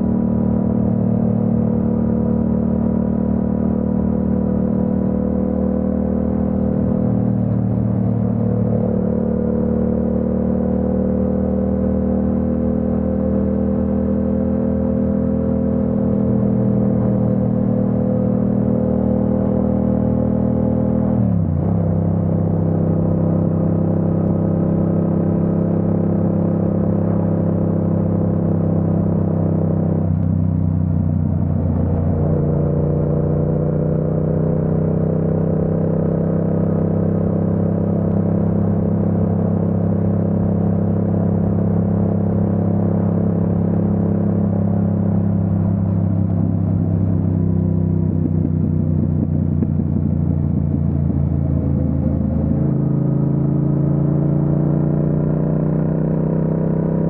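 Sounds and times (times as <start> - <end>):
motorcycle engine running: 9.6 - 57.0.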